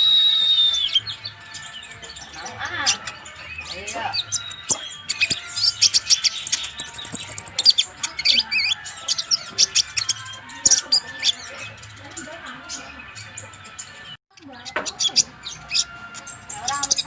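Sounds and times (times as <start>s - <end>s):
bird singing high chirps: 0.0s - 17.0s.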